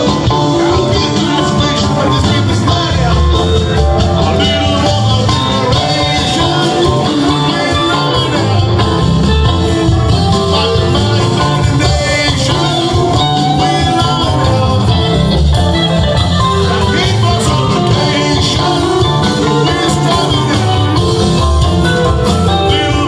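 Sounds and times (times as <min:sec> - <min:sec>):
live rock band with singing: 0:00.0 - 0:23.0.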